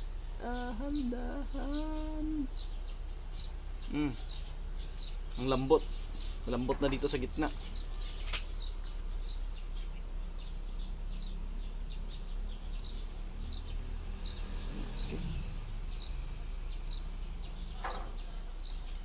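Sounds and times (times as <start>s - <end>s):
bird chirping: 0.0s - 19.0s
steady low hum: 0.0s - 19.0s.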